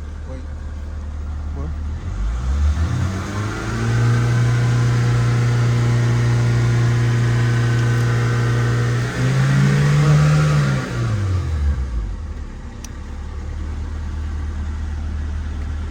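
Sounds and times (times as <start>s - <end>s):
van engine revving: 0.0s - 15.9s.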